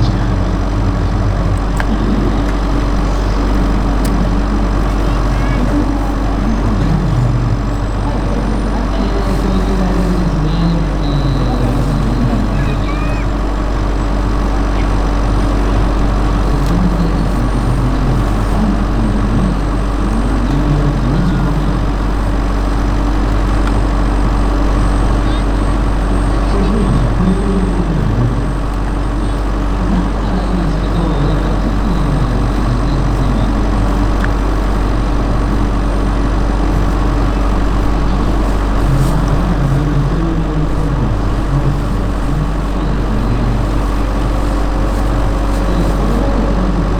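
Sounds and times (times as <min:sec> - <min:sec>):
model helicopter engine and rotor: 0:00.0 - 0:46.9.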